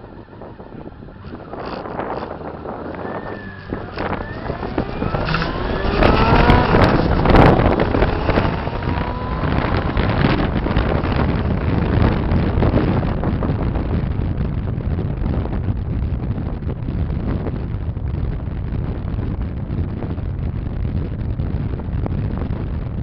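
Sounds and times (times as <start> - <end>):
motorcycle engine accelerating: 0.0 - 23.0
wind noise on microphone: 0.0 - 23.0.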